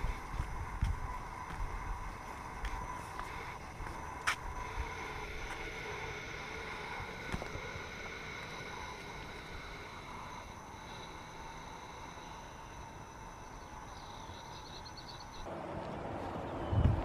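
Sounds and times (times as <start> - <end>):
faint high chirps: 0.0 - 15.5
steady low hiss: 0.0 - 16.2.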